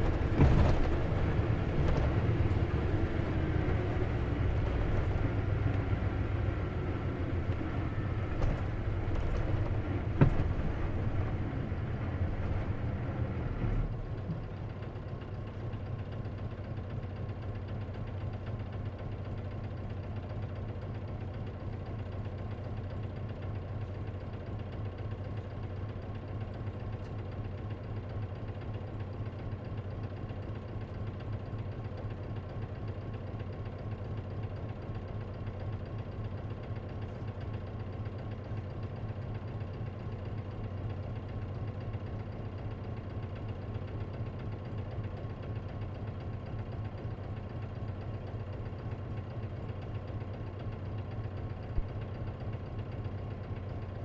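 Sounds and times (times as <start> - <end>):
bus diesel engine humming: 0.0 - 54.0.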